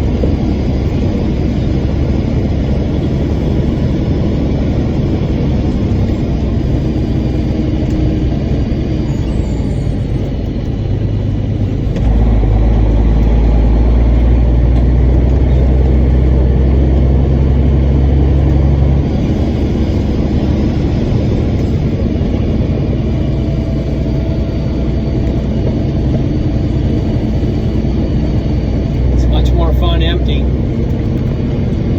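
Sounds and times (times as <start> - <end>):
heavy truck engine running: 0.0 - 31.9.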